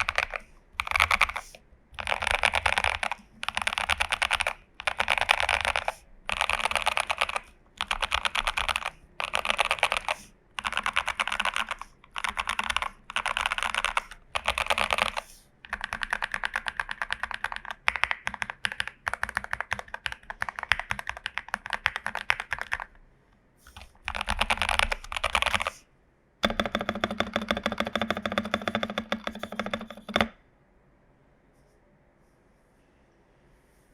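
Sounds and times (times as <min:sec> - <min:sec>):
mechanical keyboard typing: 0:00.0 - 0:23.0, 0:23.7 - 0:25.8, 0:26.4 - 0:30.4.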